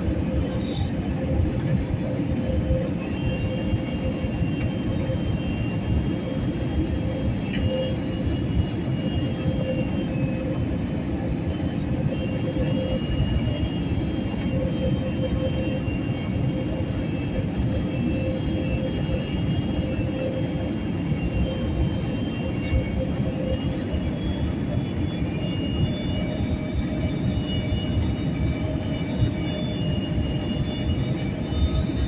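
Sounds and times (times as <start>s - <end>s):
airliner cabin rumble and roar: 0.0s - 32.0s.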